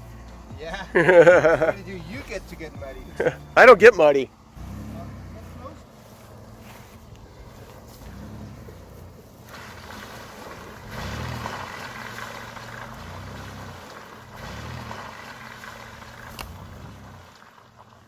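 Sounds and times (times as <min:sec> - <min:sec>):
vehicle engine running: 0:00.0 - 0:18.0
wind and road noise: 0:00.0 - 0:18.0.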